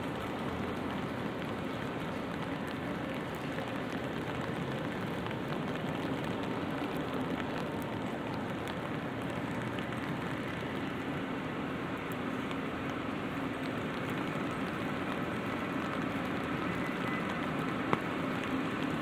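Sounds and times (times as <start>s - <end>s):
rain pattering on an umbrella: 0.0s - 19.0s.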